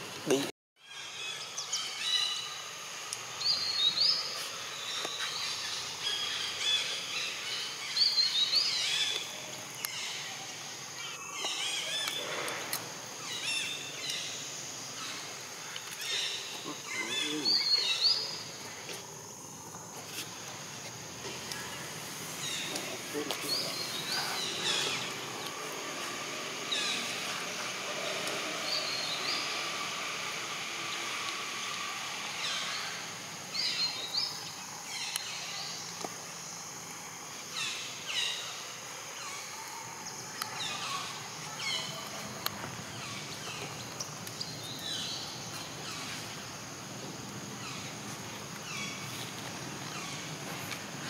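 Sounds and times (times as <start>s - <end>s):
insect drone: 0.0s - 51.0s.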